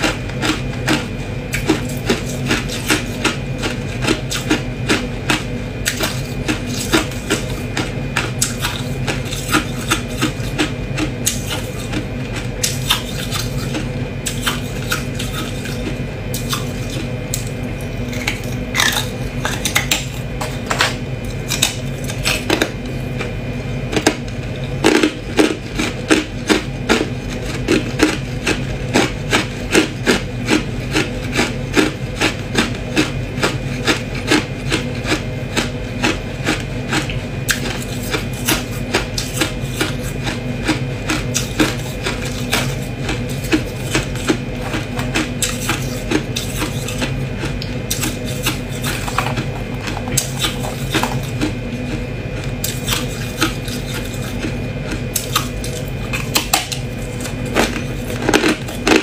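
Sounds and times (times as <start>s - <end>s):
ice crunching while chewed: 0.0s - 59.0s
steady low hum: 0.0s - 59.0s.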